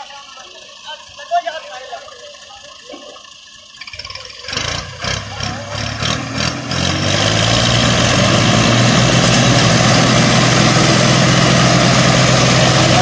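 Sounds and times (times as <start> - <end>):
tractor diesel engines running hard: 0.0 - 13.0.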